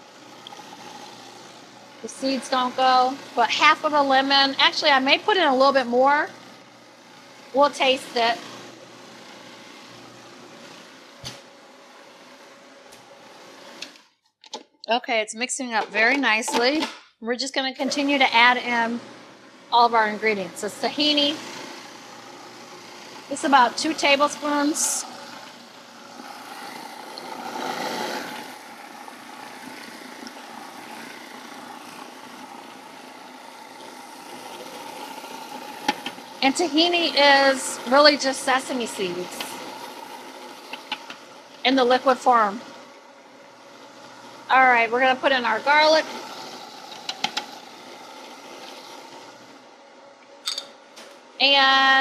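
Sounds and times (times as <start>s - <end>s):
food processor motor running: 0.0s - 14.1s, 17.8s - 50.3s, 51.2s - 52.0s.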